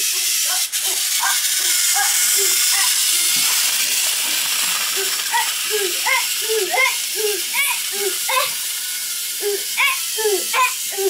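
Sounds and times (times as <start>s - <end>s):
toy train motor whirring: 0.0s - 11.0s.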